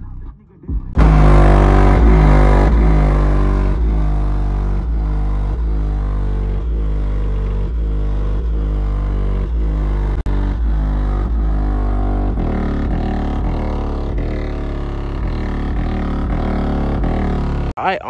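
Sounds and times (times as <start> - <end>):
bass-heavy music through subwoofers: 0.0 - 17.7.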